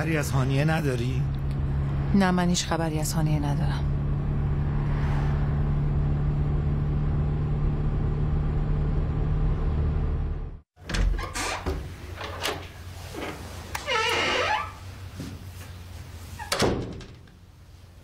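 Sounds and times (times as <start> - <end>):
car engine and road noise: 0.0 - 10.8, 11.4 - 16.6.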